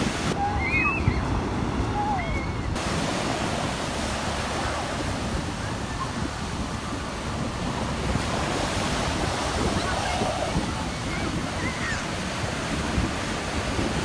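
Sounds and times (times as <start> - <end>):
ocean surf breaking: 0.0 - 14.0
wind on microphone: 0.0 - 14.0.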